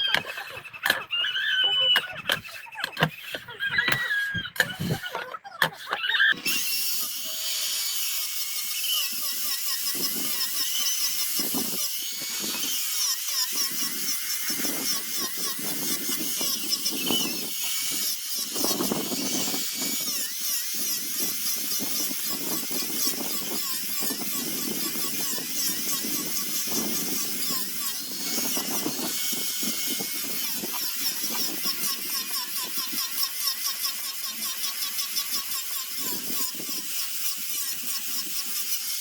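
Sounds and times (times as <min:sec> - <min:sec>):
power sander grinding wood: 0:00.0 - 0:39.0.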